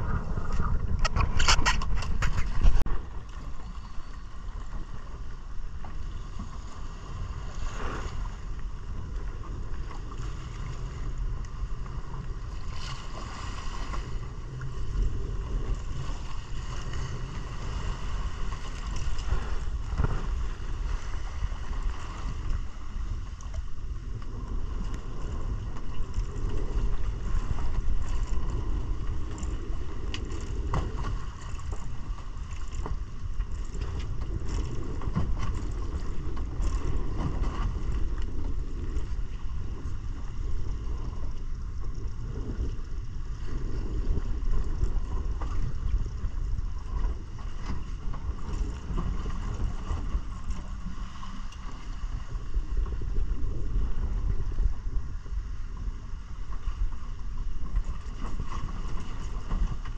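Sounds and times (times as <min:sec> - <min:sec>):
outboard motor rumbling: 0:00.0 - 0:59.9
water rushing past hull: 0:00.0 - 0:59.9
wind buffeting microphone: 0:00.0 - 0:59.9.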